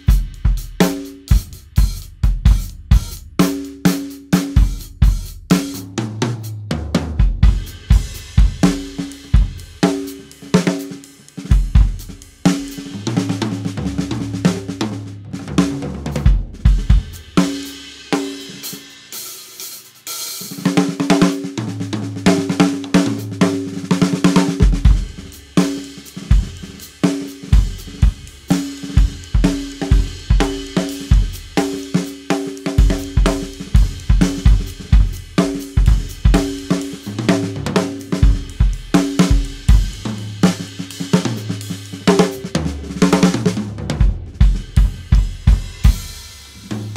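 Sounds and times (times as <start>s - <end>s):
drum kit playing: 0.0s - 46.9s.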